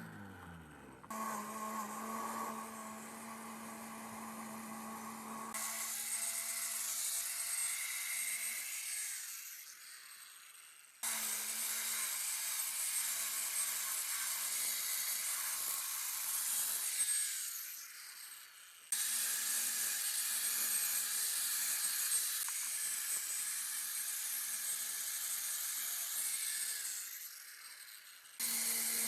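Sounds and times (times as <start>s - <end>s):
power tool working on metal: 0.0s - 29.0s.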